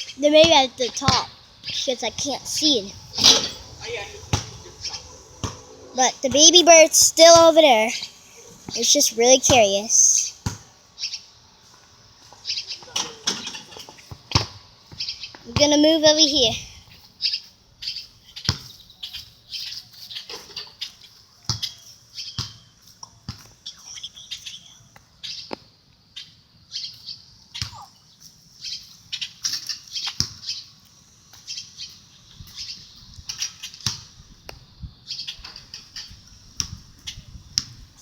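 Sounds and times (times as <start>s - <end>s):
small birds chirping: 0.0s - 11.4s, 12.0s - 22.9s, 23.5s - 25.6s, 26.2s - 37.8s.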